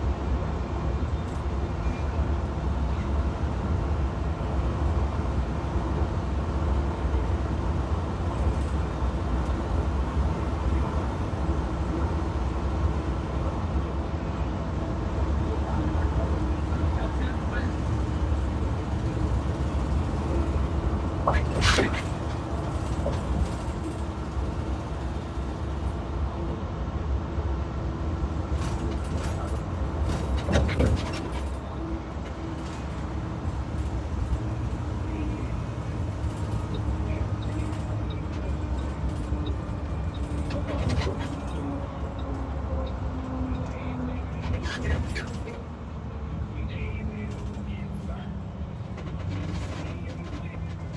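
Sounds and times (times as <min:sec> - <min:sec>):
bus engine rumbling: 0:00.0 - 0:50.9.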